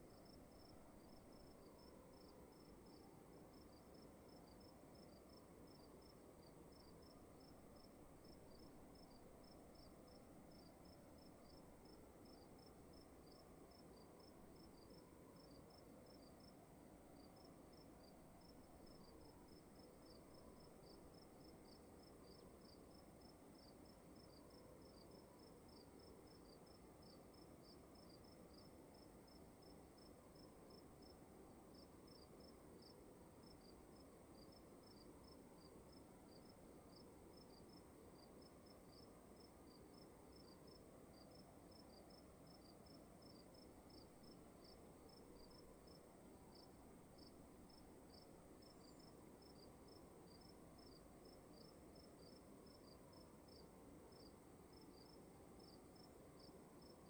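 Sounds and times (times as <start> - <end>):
crickets chirping: 0.0 - 57.0
low room hiss: 0.0 - 57.0.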